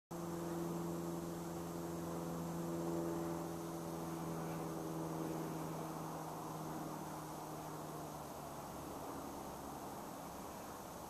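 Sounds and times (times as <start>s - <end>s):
faint hiss: 0.1s - 11.0s
steady low hum: 0.1s - 11.0s.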